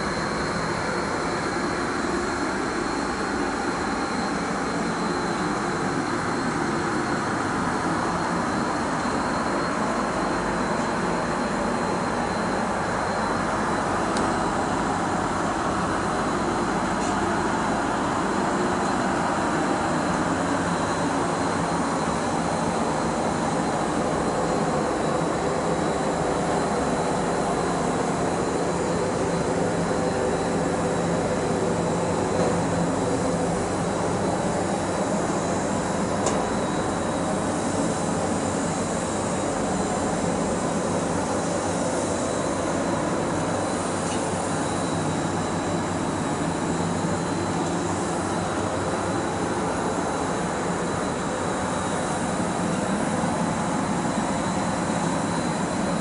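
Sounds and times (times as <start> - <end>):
faint high whine: 0.0 - 56.0
ventilation fans roaring: 0.0 - 56.0.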